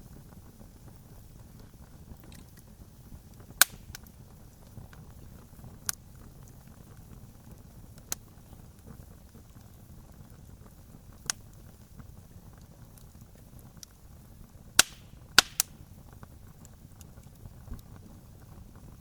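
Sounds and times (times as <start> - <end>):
low steady rumble: 0.0 - 19.0
wood popping in campfire: 0.0 - 19.0.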